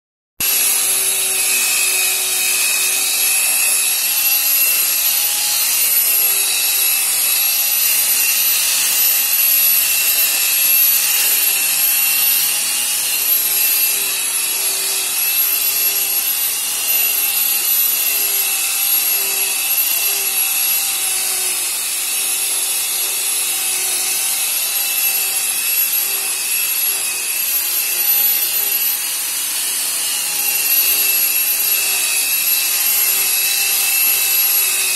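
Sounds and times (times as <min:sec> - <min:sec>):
car polishing machine whining: 0:00.4 - 0:34.9.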